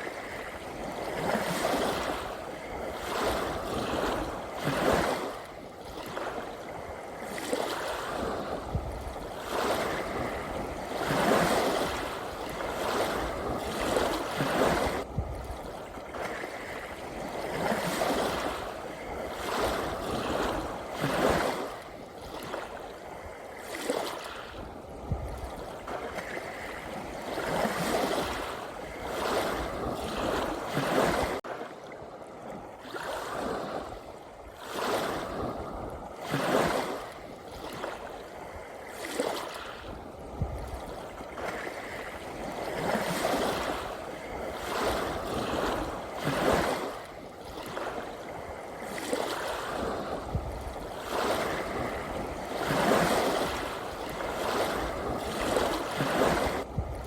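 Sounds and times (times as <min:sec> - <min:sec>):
small sea waves washing in: 0:00.0 - 0:57.0.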